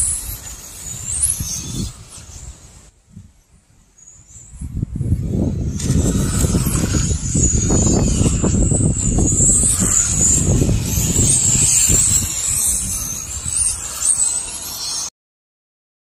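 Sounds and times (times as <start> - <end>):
rc cars high whine: 0.0 - 15.1.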